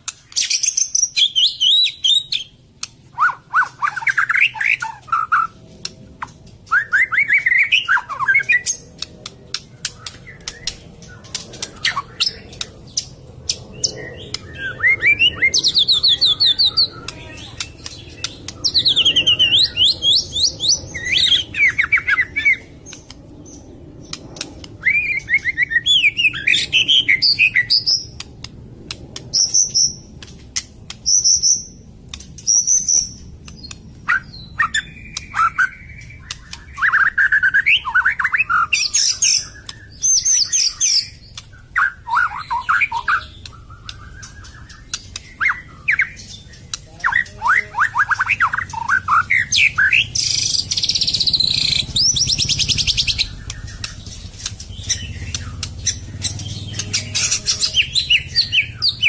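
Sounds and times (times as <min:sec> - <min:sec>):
songbird singing loud varied song: 0:00.1 - 0:28.3, 0:29.2 - 0:30.3, 0:30.9 - 0:59.0.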